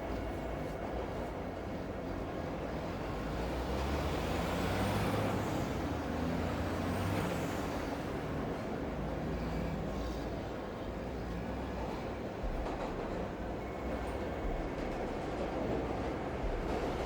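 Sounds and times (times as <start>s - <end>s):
city rumble and hiss: 0.0s - 15.0s.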